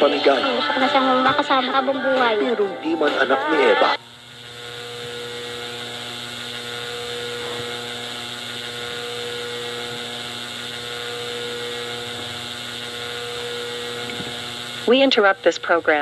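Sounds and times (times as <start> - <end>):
electronic hum with buzz: 0.0 - 16.0.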